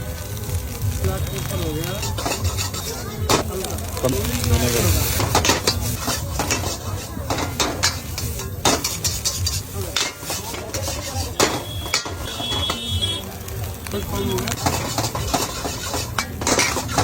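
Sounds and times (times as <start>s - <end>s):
metal spatula scraping a wok: 0.4s - 13.0s, 13.9s - 17.0s.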